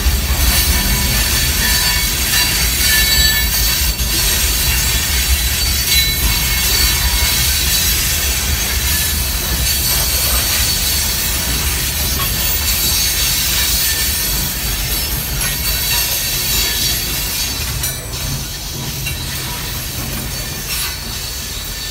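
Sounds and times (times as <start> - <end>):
steel wheels rumbling on rail: 0.0 - 21.9.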